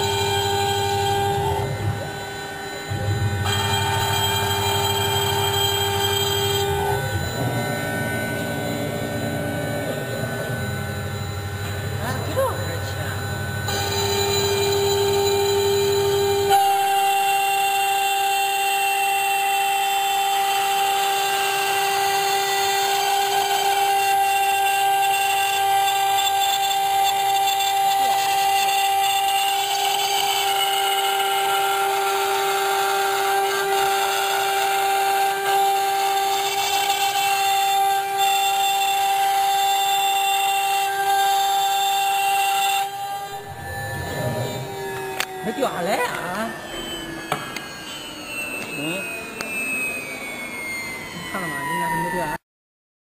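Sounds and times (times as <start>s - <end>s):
router spindle high whine: 0.0s - 52.4s.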